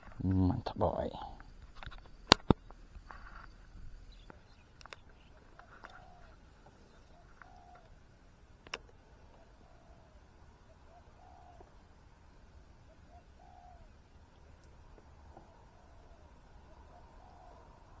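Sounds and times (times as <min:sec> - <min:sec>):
faint bird calls: 0:01.0 - 0:18.0.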